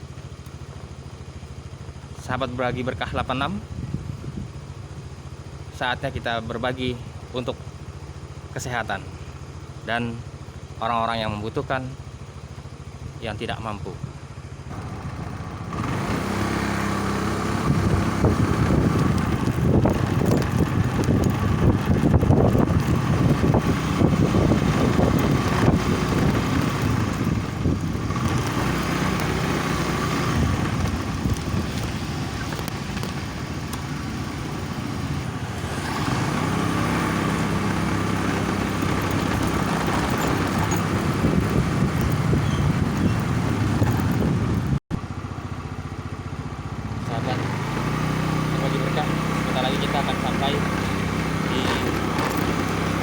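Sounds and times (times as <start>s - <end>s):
road and wind noise: 0.0s - 53.0s
vehicle engine running: 0.0s - 53.0s.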